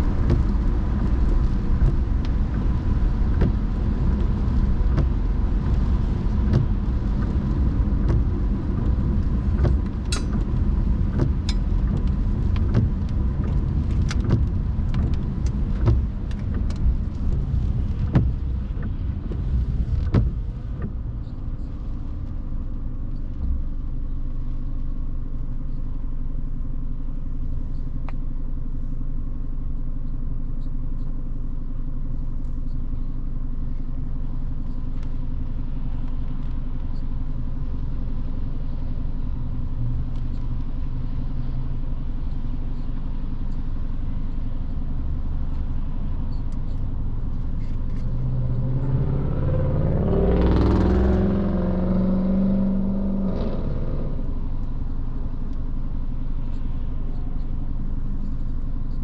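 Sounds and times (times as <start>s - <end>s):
car engine and tyre noise on wet road: 0.0s - 59.0s.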